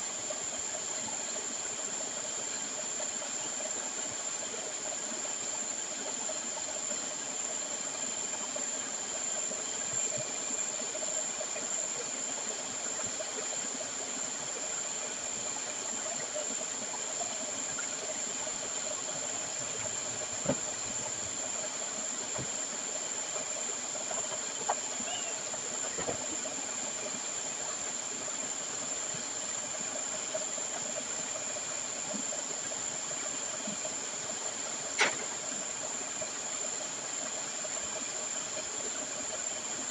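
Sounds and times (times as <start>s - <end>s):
pumps hissing and whining: 0.0s - 39.9s.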